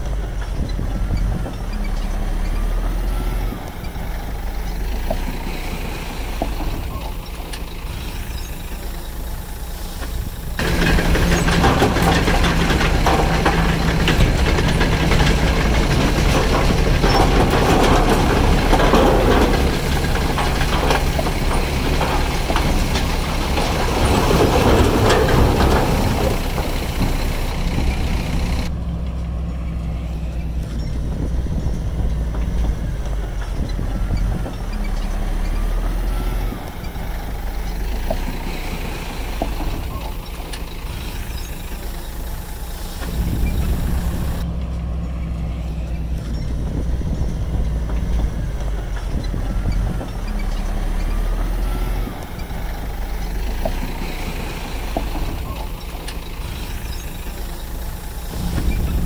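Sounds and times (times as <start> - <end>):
loud grinding and clattering: 0.0 - 28.7, 31.9 - 44.5, 45.6 - 59.0
diesel engine running: 0.0 - 59.0.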